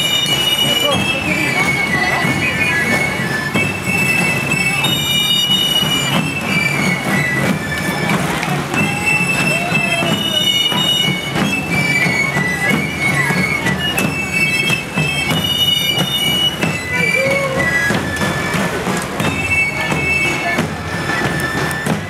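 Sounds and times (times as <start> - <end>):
pipes playing high melody: 0.0 - 22.0
regular drum beats: 0.0 - 22.0.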